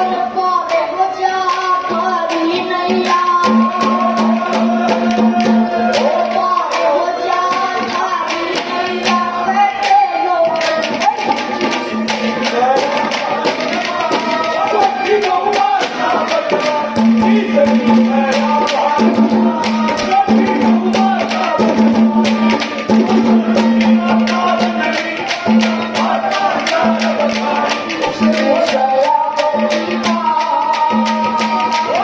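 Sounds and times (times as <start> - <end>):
hand drum strokes: 1.4 - 32.0.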